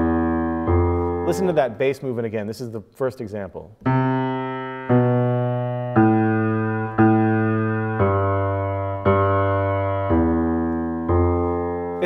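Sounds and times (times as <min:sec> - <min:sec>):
piano playing ringing chords: 0:00.0 - 0:01.8, 0:03.8 - 0:12.0.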